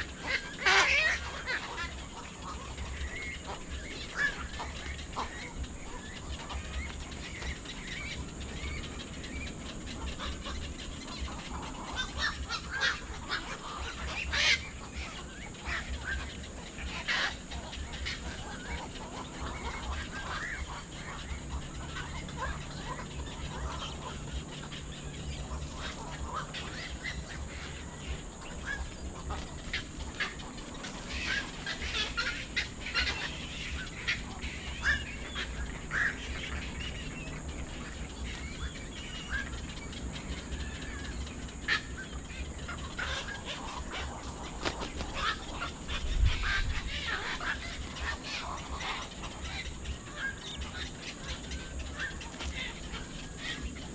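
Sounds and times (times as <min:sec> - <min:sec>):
birds calling: 0:00.0 - 0:53.9
steady low rumble: 0:00.0 - 0:53.9.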